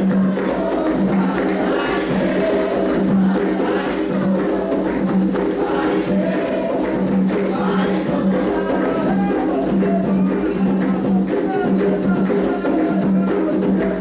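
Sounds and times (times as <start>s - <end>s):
group of voices chanting: 0.0s - 14.0s
hand drums playing: 0.0s - 14.0s.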